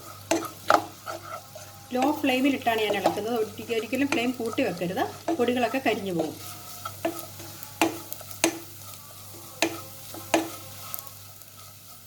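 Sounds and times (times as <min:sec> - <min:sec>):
spoon knocking against pan: 0:00.0 - 0:11.2
soft sizzle: 0:00.0 - 0:12.0.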